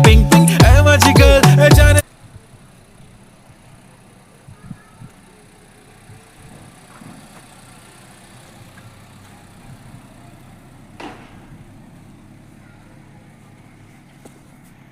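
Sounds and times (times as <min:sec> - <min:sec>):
car engine and road hum: 0:01.6 - 0:14.9.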